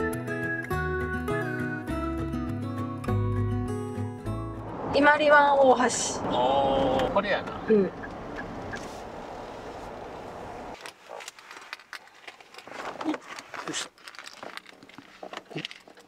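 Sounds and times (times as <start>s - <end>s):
road and engine noise: 2.9s - 16.0s.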